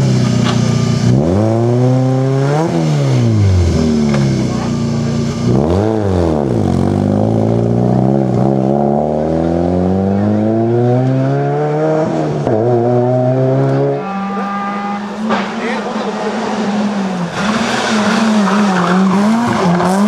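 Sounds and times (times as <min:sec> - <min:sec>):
rally car engine accelerating: 0:00.0 - 0:20.0
rally car engine holding steady: 0:00.0 - 0:20.0.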